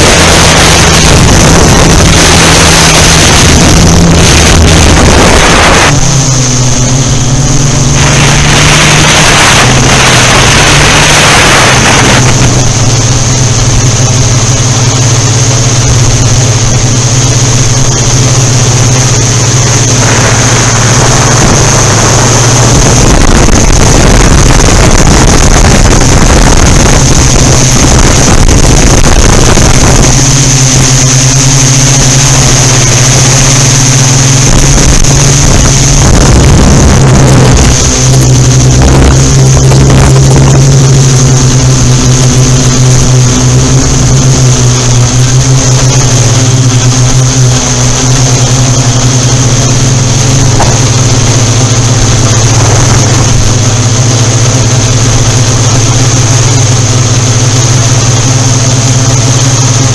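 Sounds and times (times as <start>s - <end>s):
wind buffeting microphone: 0.0s - 17.0s, 17.6s - 57.4s
drone propellers droning: 0.0s - 59.9s.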